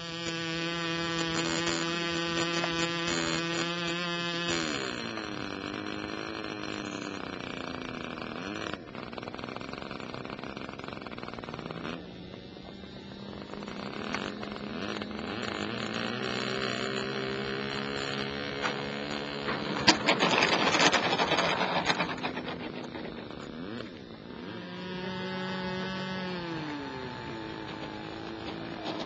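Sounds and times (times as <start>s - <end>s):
model plane motor humming: 0.0s - 29.0s.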